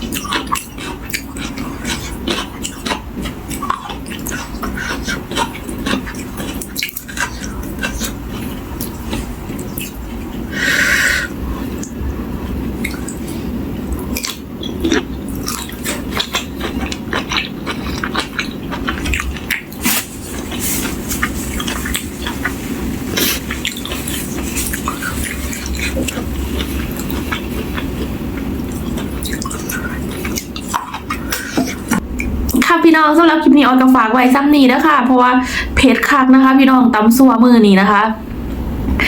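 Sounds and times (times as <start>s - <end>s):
person chewing food: 0.0s - 32.6s
low hum: 5.4s - 39.0s.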